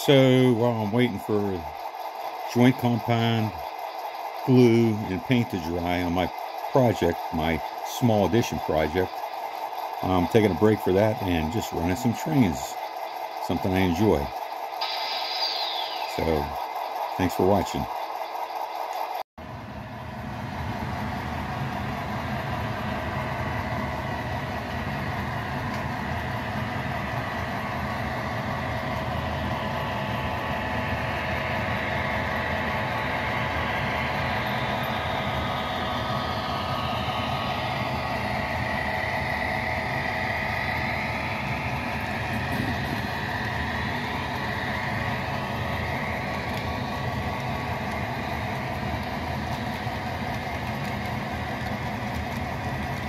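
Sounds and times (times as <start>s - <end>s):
model train engine hum: 0.0s - 53.0s
wheels rumbling on rails: 0.0s - 53.0s.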